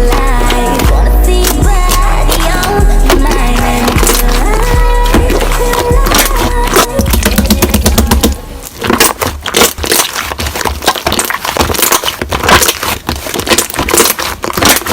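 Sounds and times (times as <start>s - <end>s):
slime squeezed crackling and popping: 0.0s - 14.9s.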